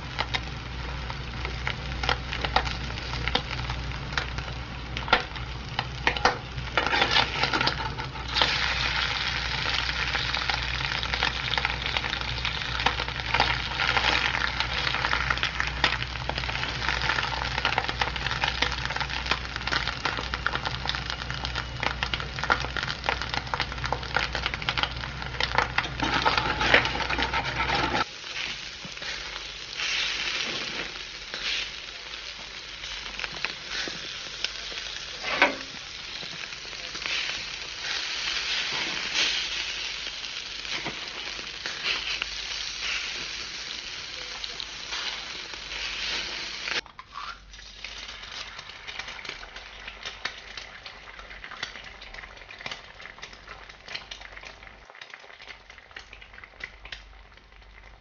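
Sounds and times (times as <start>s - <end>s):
crackling and sizzling: 0.0s - 58.0s.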